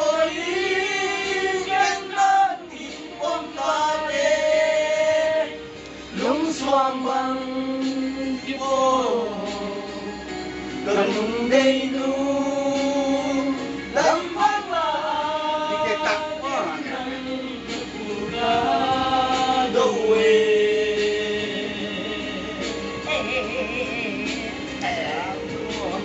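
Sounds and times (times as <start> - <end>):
instrumental backing music: 0.0 - 26.0
person singing long sliding notes: 0.0 - 26.0.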